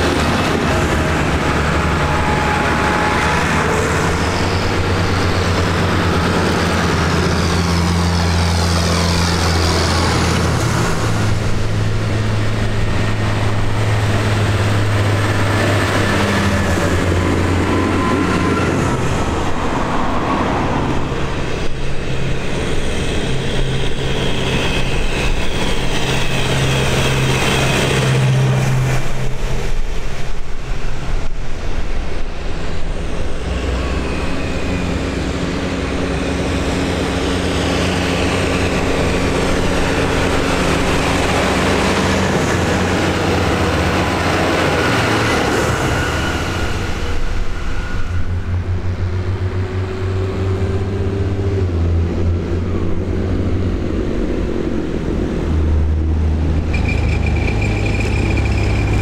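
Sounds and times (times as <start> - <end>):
tractor engine drone: 0.0 - 59.0
tyre and road noise: 0.0 - 59.0.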